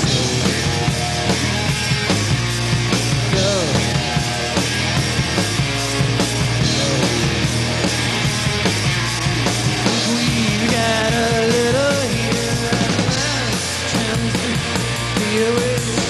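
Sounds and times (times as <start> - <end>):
bending guitar lead line: 0.0 - 16.0
rock band playing: 0.0 - 16.0.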